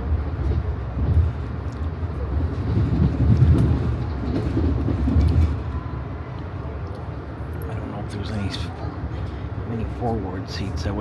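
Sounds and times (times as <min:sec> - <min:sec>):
train car rumbling on track: 0:00.0 - 0:11.0.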